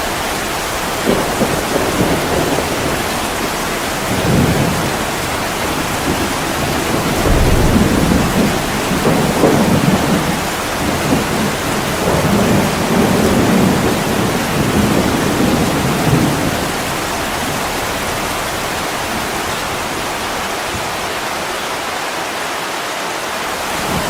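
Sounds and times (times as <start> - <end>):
rolling thunder: 0.0 - 21.2
heavy rain on a window: 0.0 - 24.0.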